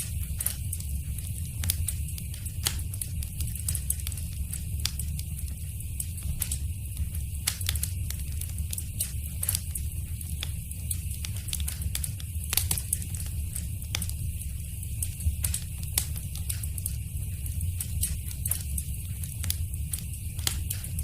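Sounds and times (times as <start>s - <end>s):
fire popping and snapping: 0.0s - 21.0s
low fire rumble and hiss: 0.0s - 21.0s
wood fire crackling: 0.0s - 21.0s.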